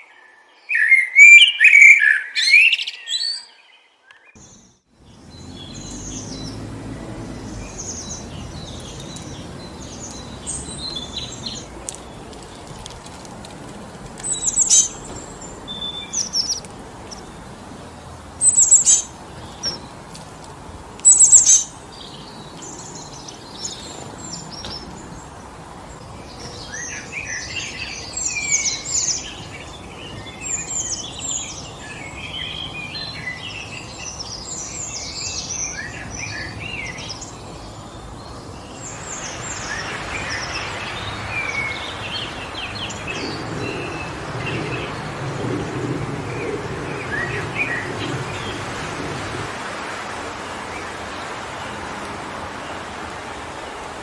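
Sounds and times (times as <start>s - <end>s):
birds chirping: 0.0s - 54.0s
wind rushing through trees: 4.3s - 54.0s.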